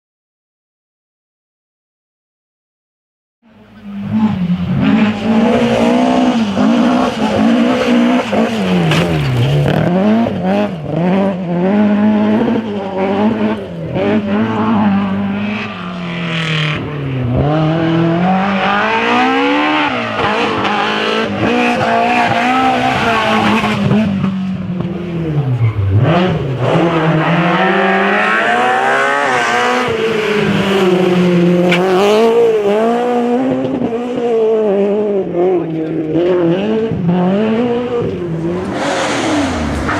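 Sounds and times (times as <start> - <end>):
rally car engine revving: 3.5 - 39.9.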